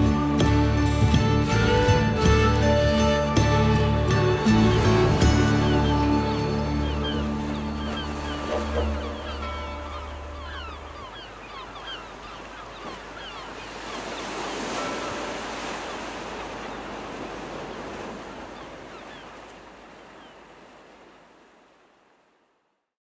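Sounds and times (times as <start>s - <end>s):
ocean surf washing: 0.0s - 22.4s.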